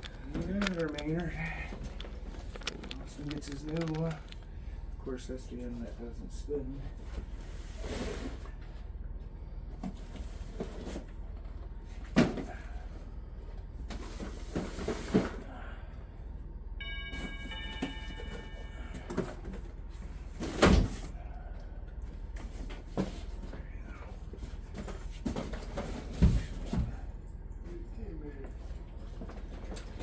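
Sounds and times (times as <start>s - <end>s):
steady low hum: 0.0s - 14.3s, 15.1s - 30.0s.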